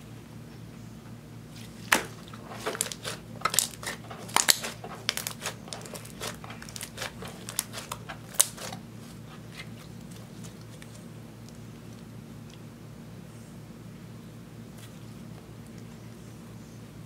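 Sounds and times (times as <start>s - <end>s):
faint steady low hum: 0.0s - 17.0s.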